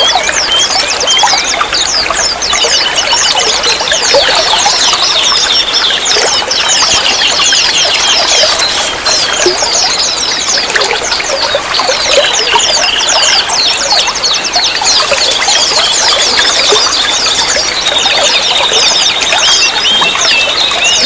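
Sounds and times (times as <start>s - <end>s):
small birds chirping: 0.0s - 21.0s
water trickling: 0.0s - 21.0s.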